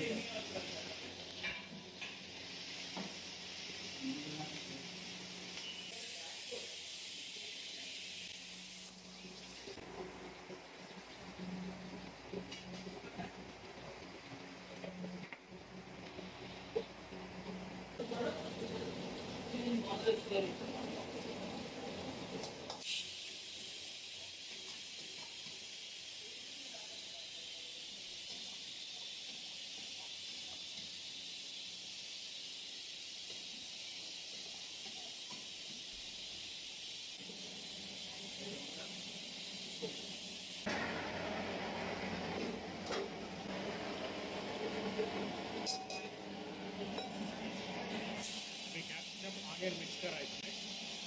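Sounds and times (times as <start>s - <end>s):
hot oil sizzling: 0.0s - 51.0s.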